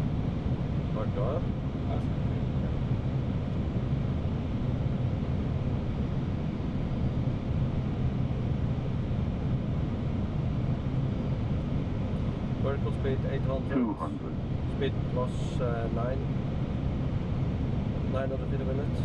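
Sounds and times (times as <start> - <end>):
low rumble of airflow and engines: 0.0 - 19.0.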